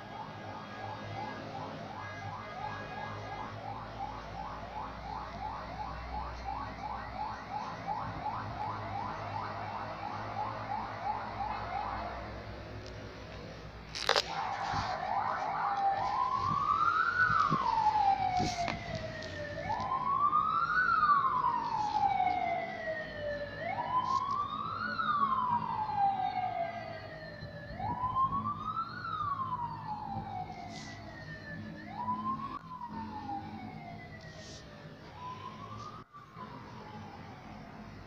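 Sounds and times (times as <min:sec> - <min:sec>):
siren wailing: 0:00.0 - 0:12.9, 0:13.9 - 0:38.0.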